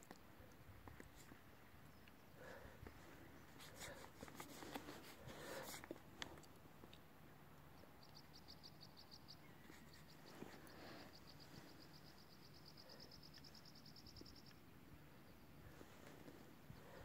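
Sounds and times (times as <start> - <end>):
quiet outdoor background: 0.0 - 17.0.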